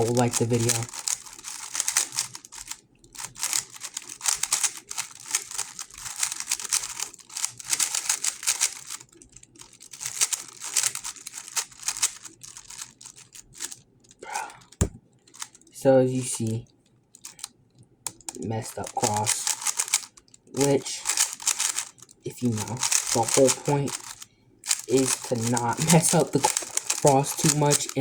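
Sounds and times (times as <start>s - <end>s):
puzzle cube plastic clicking: 0.0s - 15.7s, 17.2s - 17.5s, 18.1s - 28.0s.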